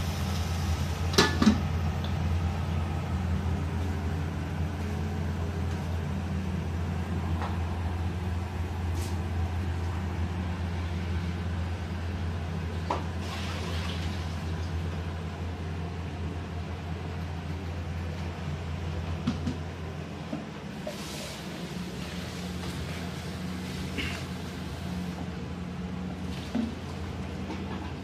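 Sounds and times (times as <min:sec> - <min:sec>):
kitchen machinery humming: 0:00.0 - 0:28.0.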